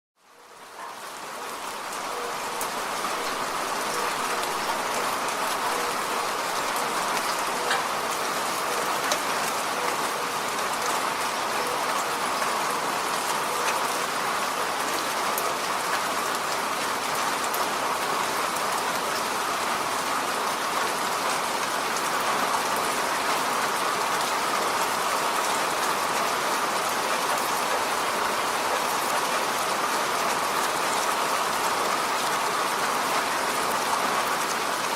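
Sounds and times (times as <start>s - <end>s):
rain falling on a road: 0.2s - 34.9s.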